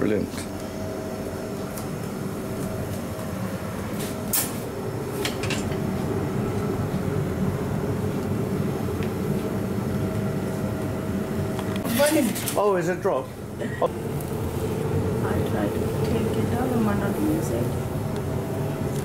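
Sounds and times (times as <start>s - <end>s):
gas tandoor roaring: 0.0s - 19.0s.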